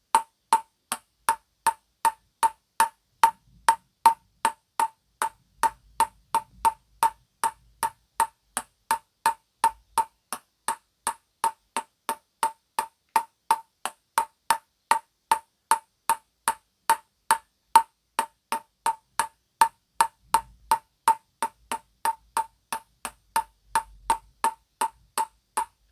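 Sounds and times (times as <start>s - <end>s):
ping-pong ball bouncing on paddle: 0.2s - 25.8s.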